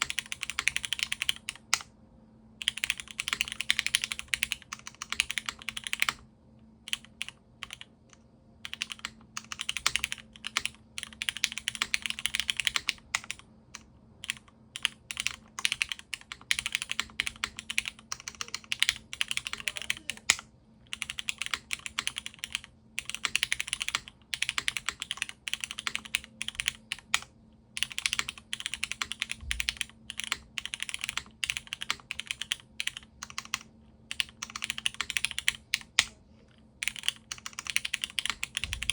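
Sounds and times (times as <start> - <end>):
mechanical keyboard typing: 0.0 - 1.9, 2.6 - 6.2, 6.9 - 7.9, 8.6 - 36.2, 36.8 - 38.9.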